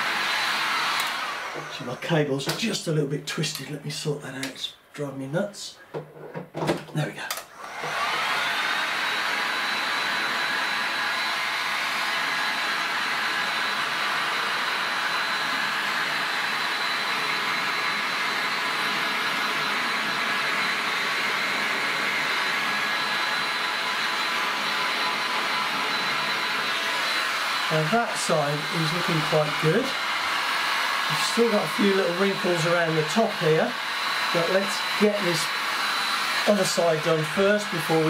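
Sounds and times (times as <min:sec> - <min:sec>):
heat gun fan blowing with whine: 0:00.0 - 0:02.7, 0:07.5 - 0:38.0.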